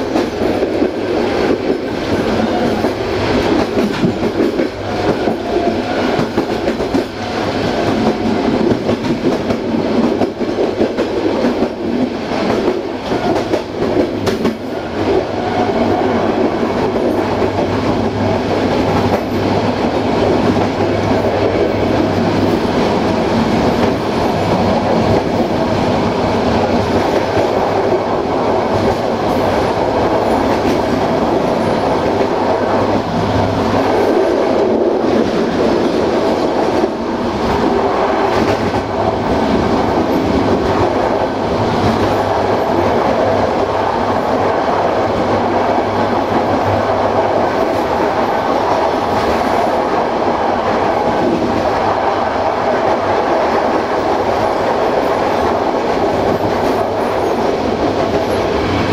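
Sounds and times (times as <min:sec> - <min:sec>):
train wheels on rails: 0:00.0 - 0:58.9.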